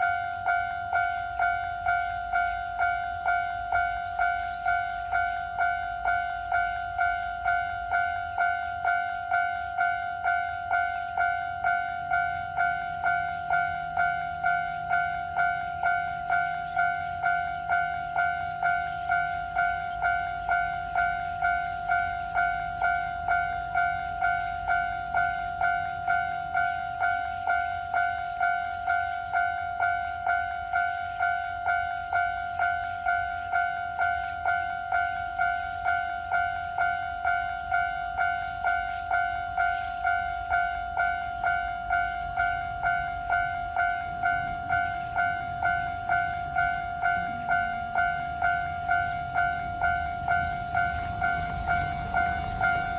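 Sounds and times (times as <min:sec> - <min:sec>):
low train rumble: 0:00.0 - 0:52.9
railroad crossing bell ringing: 0:00.0 - 0:52.9.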